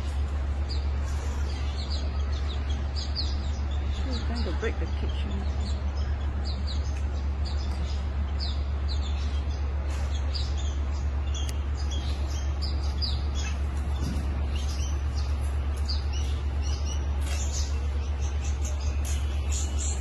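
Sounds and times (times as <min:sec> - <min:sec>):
small birds chirping: 0:00.0 - 0:20.0
steady low hum: 0:00.0 - 0:20.0.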